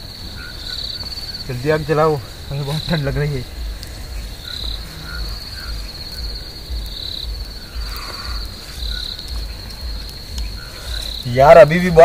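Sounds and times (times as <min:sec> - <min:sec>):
crickets trilling: 0:00.0 - 0:12.0
low uneven rumble: 0:00.0 - 0:12.0.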